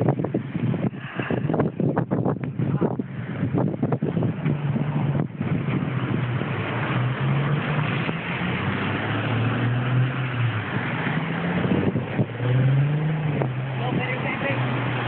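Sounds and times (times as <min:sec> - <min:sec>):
constant rushing noise: 0:00.0 - 0:15.0
vehicle engine humming: 0:00.0 - 0:15.0.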